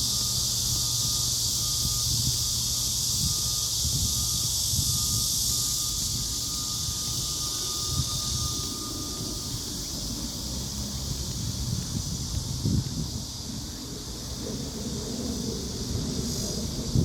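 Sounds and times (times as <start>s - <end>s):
steady high hiss: 0.0s - 17.0s
wind buffeting microphone: 0.0s - 17.0s.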